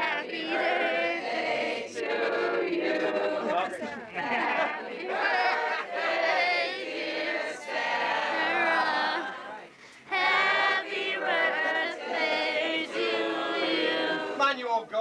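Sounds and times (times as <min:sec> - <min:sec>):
group of people singing: 0:00.0 - 0:14.6.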